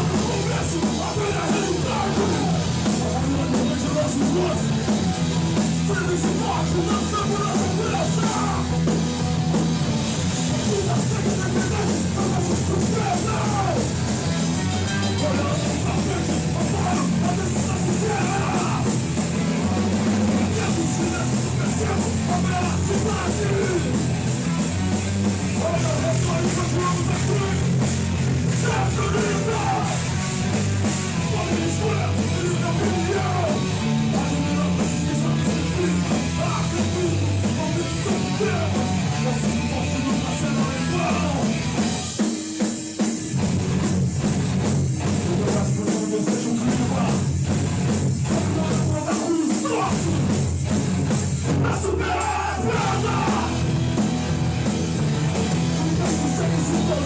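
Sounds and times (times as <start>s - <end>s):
punk band playing live: 0.0s - 57.0s.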